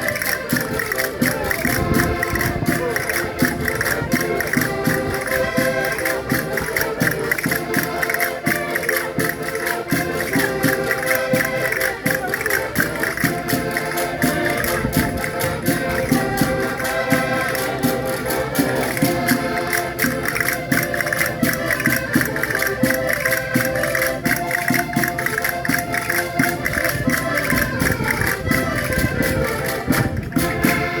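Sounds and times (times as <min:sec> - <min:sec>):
concertinas playing dance tune: 0:00.0 - 0:31.0
percussive beat: 0:00.0 - 0:31.0.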